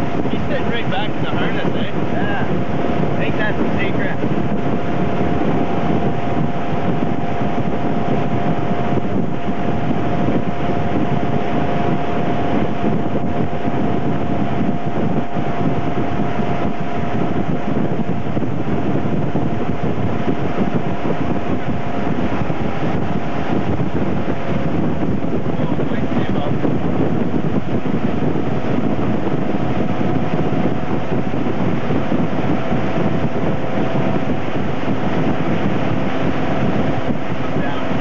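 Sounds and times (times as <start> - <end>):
motorboat engine running: 0.0 - 38.0
wind rushing over microphone: 0.0 - 38.0.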